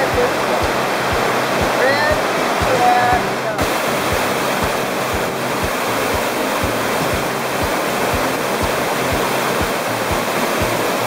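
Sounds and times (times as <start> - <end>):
background music with low beat: 0.0 - 11.0
waterfall rushing: 0.0 - 11.0.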